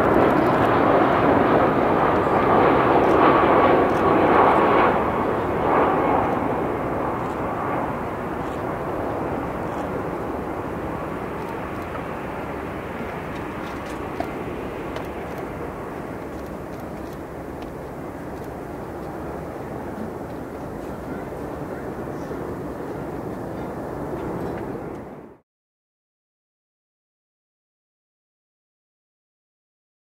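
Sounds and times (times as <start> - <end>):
jet engines passing close by: 0.0 - 25.4.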